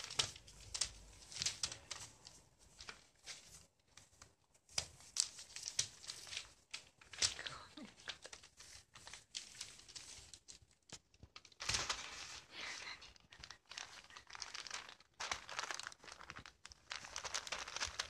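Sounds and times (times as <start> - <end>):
newspaper crinkling and rustling: 0.0 - 18.0.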